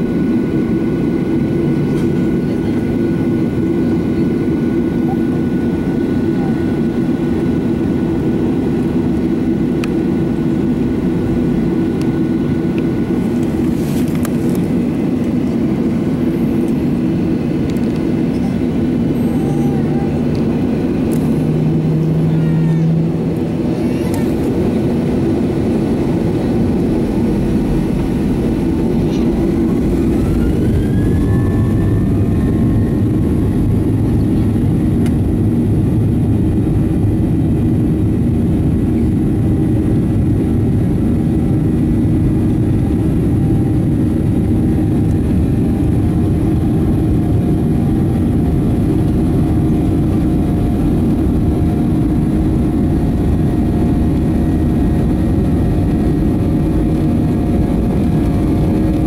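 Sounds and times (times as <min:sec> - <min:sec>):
jet engine rumble and whine: 0:00.0 - 0:59.0.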